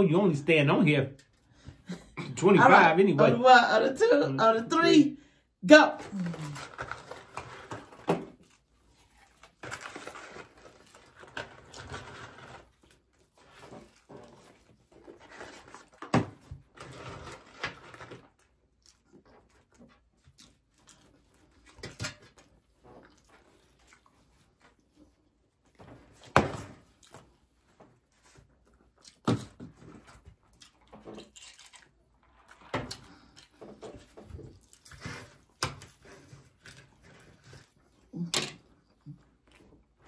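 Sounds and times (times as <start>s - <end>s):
people chewing and smacking: 6.1s - 40.0s.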